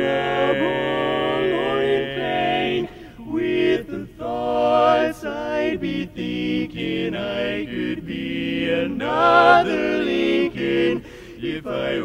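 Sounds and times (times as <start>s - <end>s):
male quartet singing a cappella: 0.0s - 12.0s.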